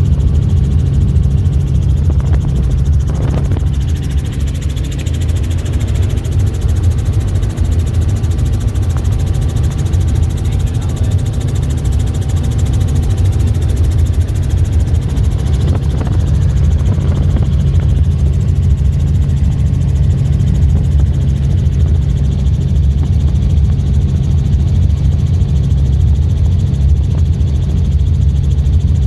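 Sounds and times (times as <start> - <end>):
helicopter rotor thrum: 0.0 - 29.0.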